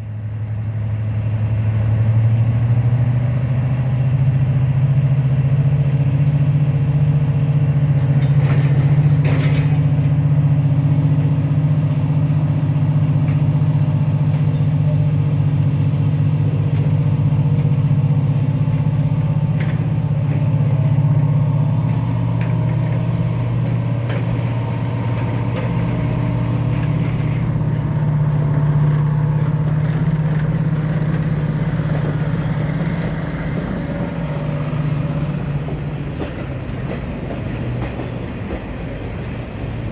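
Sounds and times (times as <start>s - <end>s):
diesel train engine idling: 0.0s - 39.9s.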